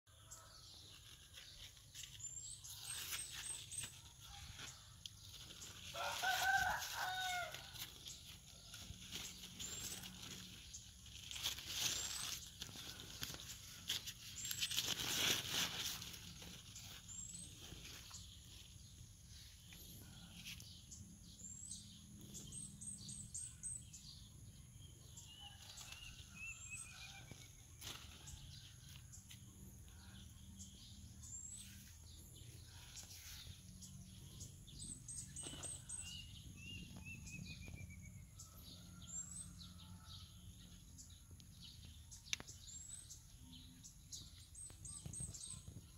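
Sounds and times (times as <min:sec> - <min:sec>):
bird chirping: 0:00.1 - 0:45.9.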